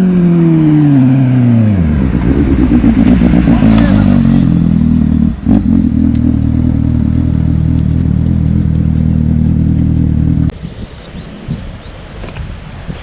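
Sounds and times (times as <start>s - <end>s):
motorcycle engine at high revs: 0.0s - 10.5s.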